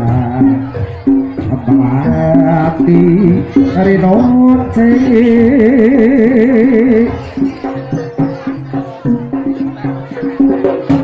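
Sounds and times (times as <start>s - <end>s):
loud melody instrument: 0.0s - 11.0s
percussion strokes: 0.0s - 11.0s.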